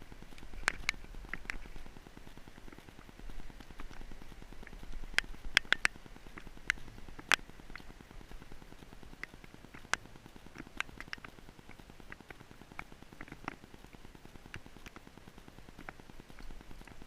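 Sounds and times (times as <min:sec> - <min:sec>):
faint low rumble: 0:00.0 - 0:17.0
light taps and clicks: 0:00.3 - 0:15.1.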